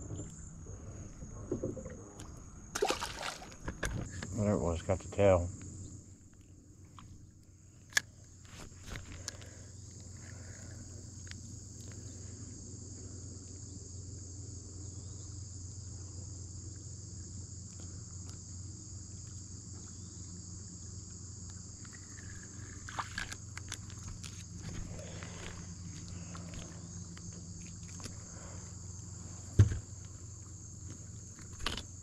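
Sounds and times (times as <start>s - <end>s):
insects chorus: 0.0s - 32.0s
low steady hum: 0.0s - 32.0s.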